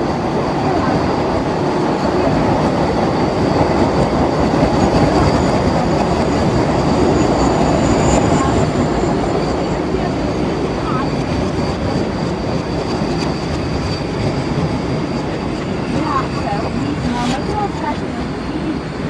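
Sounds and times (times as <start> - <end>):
train wheels rumbling on rail: 0.0 - 19.0
faint high whine: 0.1 - 19.0.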